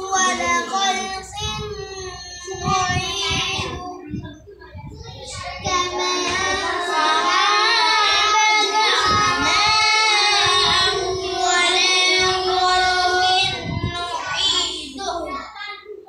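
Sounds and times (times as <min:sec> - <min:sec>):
boy chanting recitation: 0:00.0 - 0:16.0.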